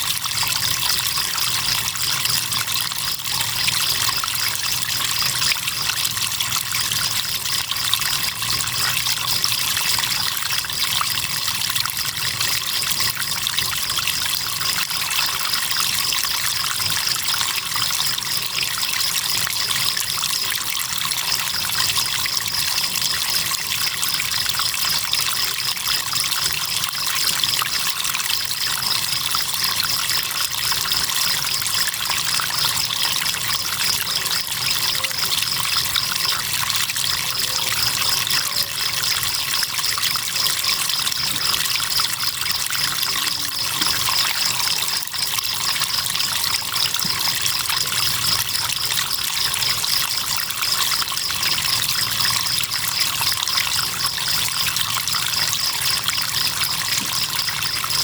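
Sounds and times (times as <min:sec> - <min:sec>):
river water trickling: 0:00.0 - 0:58.0
crickets chirping: 0:00.5 - 0:58.0.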